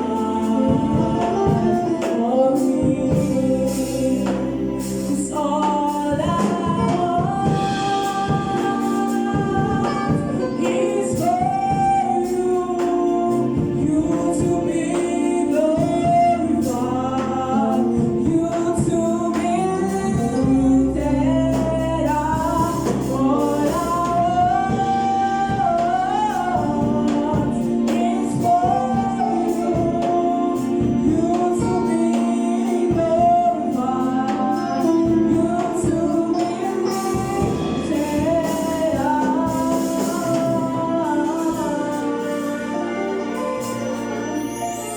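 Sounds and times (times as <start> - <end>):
gospel choir singing: 0.0 - 44.9
steady bass: 0.0 - 44.9.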